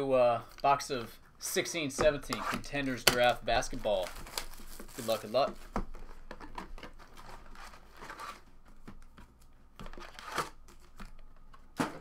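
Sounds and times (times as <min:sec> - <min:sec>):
card packs rustling and crinkling: 0:02.0 - 0:12.0.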